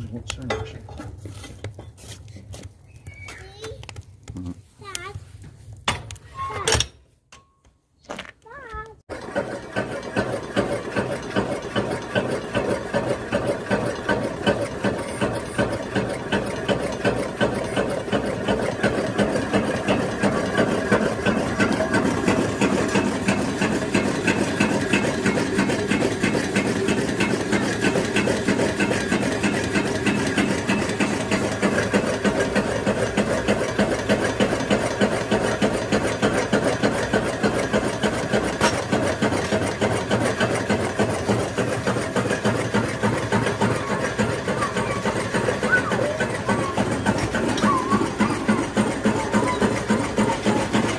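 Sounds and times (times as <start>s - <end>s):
stirling engine rhythmic clatter: 9.1s - 50.9s.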